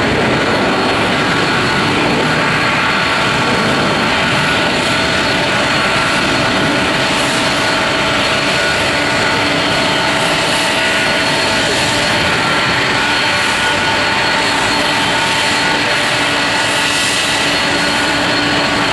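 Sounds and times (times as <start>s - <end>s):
jet engine whine: 0.0s - 18.9s
jet engines roaring: 0.0s - 18.9s.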